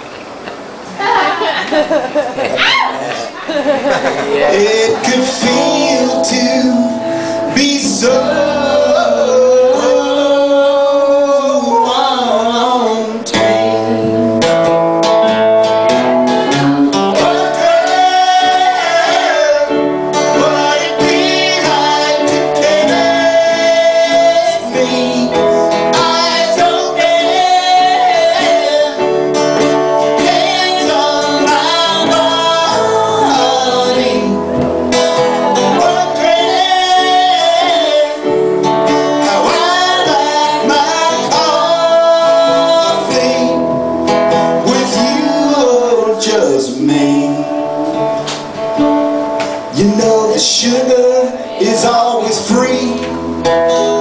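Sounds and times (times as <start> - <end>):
guitar accompaniment: 0.0 - 54.0
voices singing: 2.9 - 14.4, 16.5 - 43.9, 44.6 - 48.5, 49.6 - 54.0.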